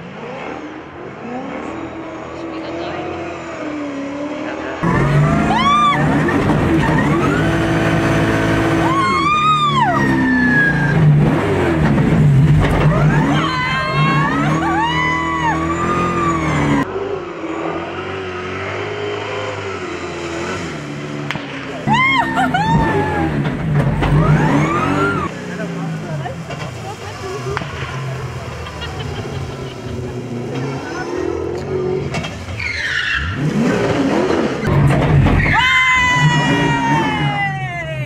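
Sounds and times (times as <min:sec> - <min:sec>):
car engine revving: 0:00.0 - 0:37.5.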